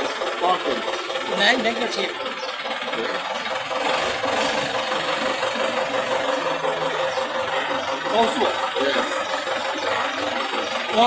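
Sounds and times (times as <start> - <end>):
drilling rig engine running: 0.0 - 11.0.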